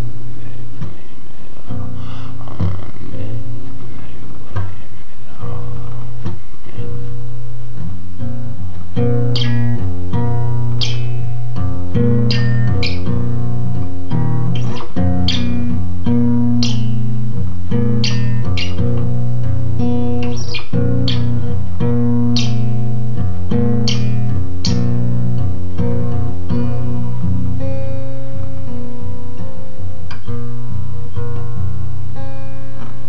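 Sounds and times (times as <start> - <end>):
acoustic guitar chords: 0.0 - 33.0.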